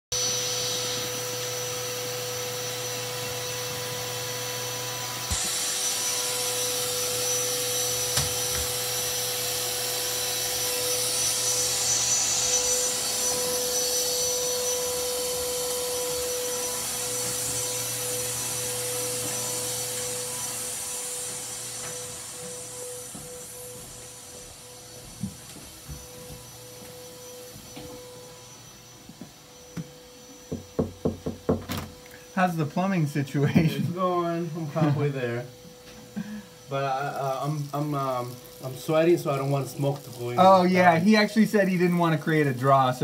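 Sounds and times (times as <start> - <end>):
shop vacuum running: 0.1 - 43.0.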